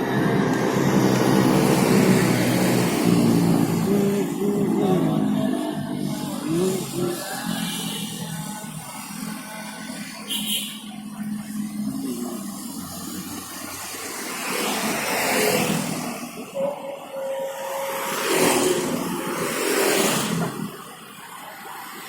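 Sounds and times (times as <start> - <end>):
vehicles passing on road: 0.0 - 22.0.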